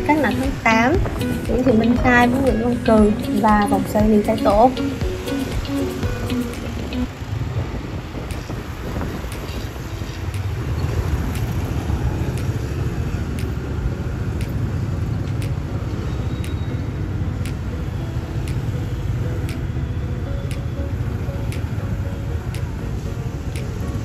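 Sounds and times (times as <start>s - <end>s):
traffic engines rumbling: 0.0s - 24.0s.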